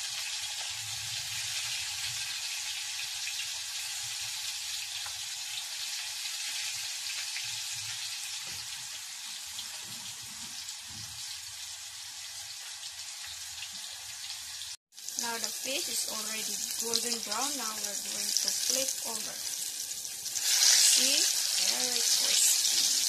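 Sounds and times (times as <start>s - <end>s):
fish sizzling in hot oil: 0.0s - 23.0s.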